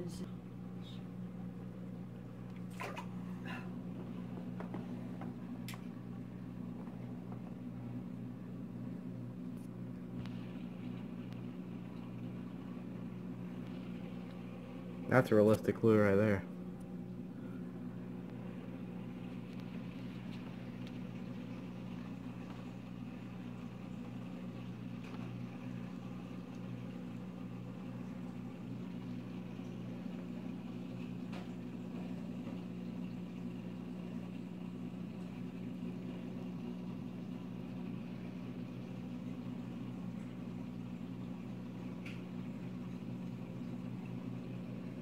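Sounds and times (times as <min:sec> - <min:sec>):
aquarium equipment hum: 0:00.0 - 0:45.0.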